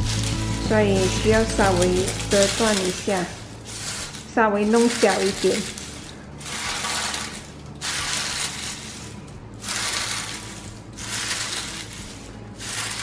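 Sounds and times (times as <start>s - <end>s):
dried leaves crackling and crunching: 0.0s - 13.0s.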